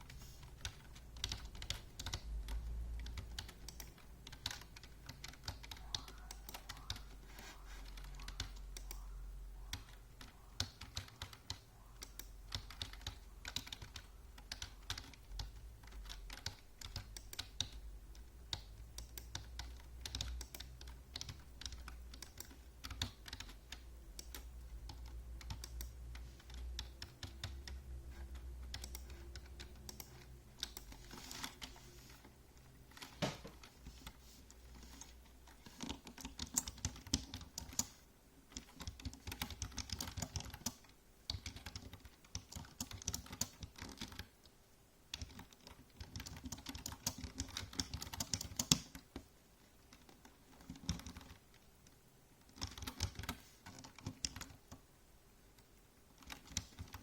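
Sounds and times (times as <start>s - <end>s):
computer keyboard typing: 0.0s - 44.4s, 45.1s - 49.3s, 49.9s - 54.8s, 56.1s - 57.0s.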